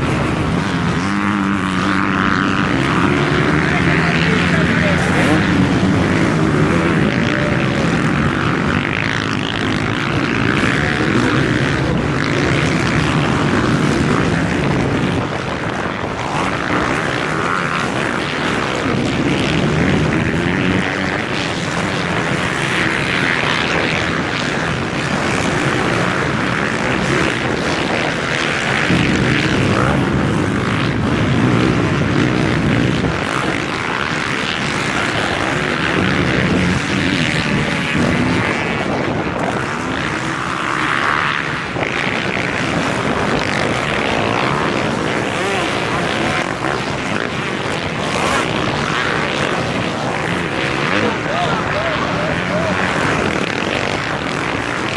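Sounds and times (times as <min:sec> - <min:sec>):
off-road motorcycle engines revving: 0:00.0 - 0:54.9.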